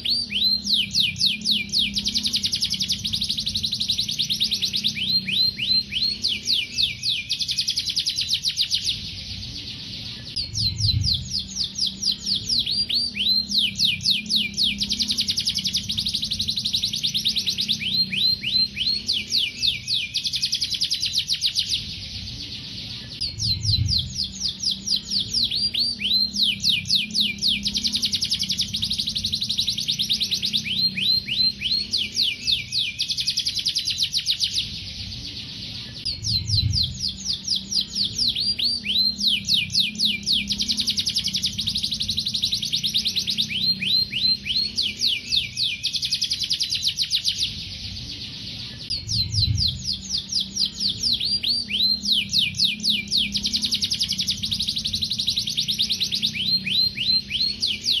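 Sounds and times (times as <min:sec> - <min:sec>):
canary singing rapid rolls: 0:00.0 - 0:58.0.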